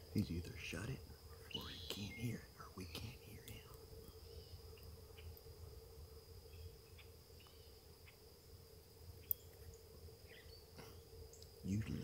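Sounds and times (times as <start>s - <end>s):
high insect drone: 0.0s - 12.0s
faint bird chirps: 0.1s - 5.4s, 6.4s - 8.5s, 9.2s - 12.0s.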